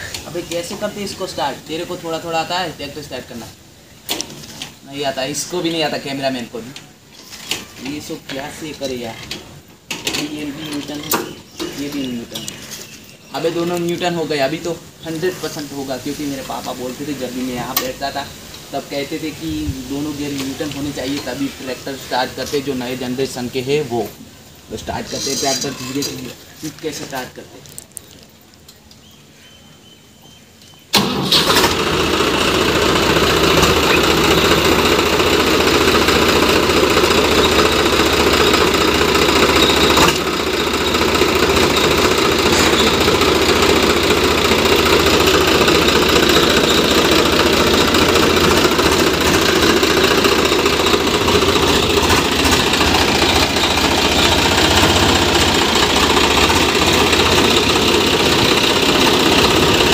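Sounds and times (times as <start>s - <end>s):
tractor diesel engine running: 0.0s - 27.4s, 30.9s - 59.9s.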